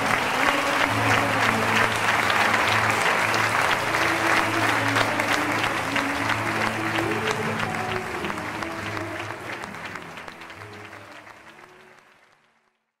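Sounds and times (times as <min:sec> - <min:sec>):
music: 0:00.0 - 0:12.8
audience applause: 0:00.0 - 0:13.0.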